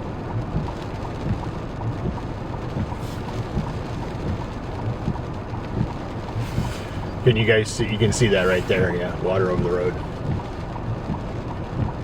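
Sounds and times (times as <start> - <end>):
floodwater rushing over road: 0.0 - 12.0
low uneven rumble: 0.0 - 12.0.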